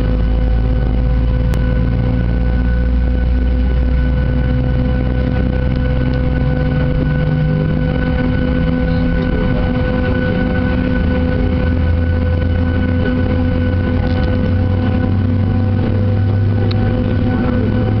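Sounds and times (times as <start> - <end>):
jet engine starting: 0.0 - 18.0.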